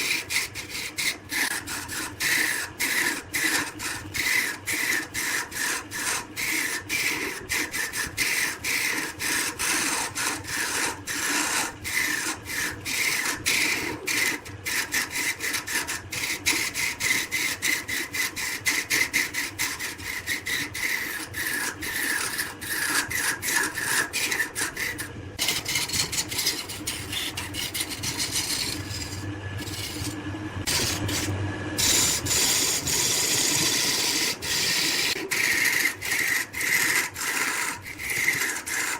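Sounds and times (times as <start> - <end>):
tool rasping against wood: 0.0 - 38.9.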